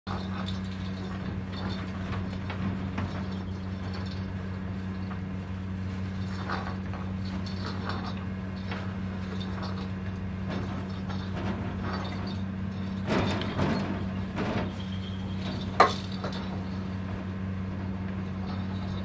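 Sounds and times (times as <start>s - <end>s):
steady low hum: 0.1s - 19.0s
wooden sliding door scraping and rattling: 0.1s - 19.0s.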